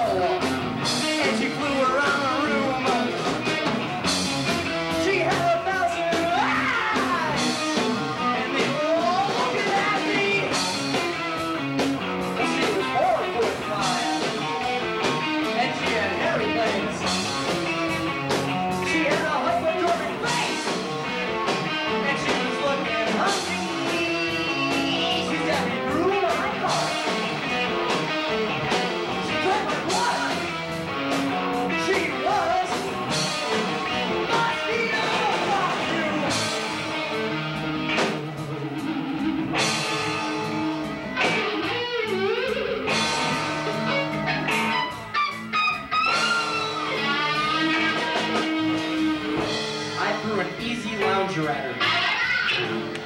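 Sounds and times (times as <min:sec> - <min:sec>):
bending electric guitar notes: 0:00.0 - 0:53.0
live rock band playing: 0:00.0 - 0:53.0.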